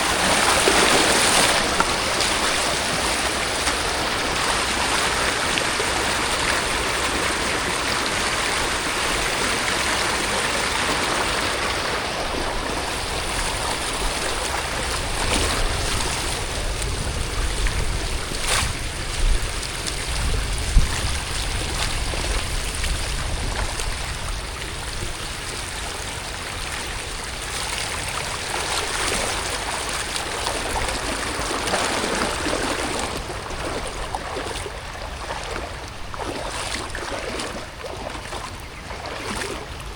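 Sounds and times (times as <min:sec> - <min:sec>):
rain and running water: 0:00.0 - 0:39.9.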